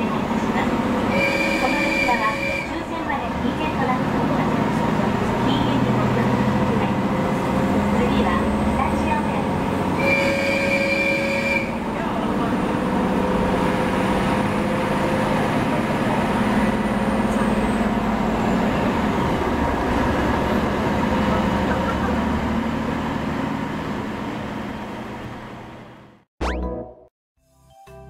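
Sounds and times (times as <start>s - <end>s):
railcar engine hum: 0.0s - 26.2s
train rumble and rush: 0.0s - 26.2s.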